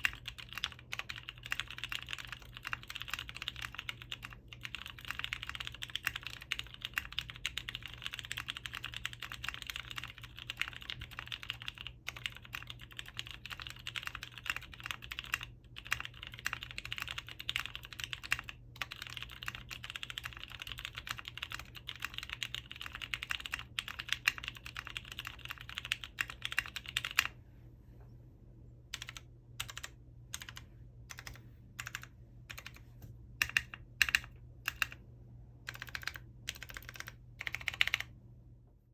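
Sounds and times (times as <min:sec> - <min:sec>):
mechanical keyboard typing: 0:00.0 - 0:27.4, 0:28.9 - 0:35.0, 0:35.6 - 0:38.2.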